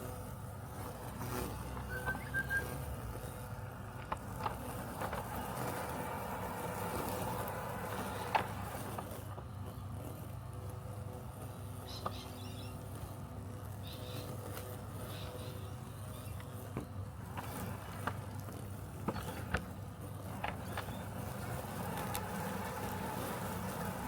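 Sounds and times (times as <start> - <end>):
robotic lawn mower humming: 0.0 - 24.0.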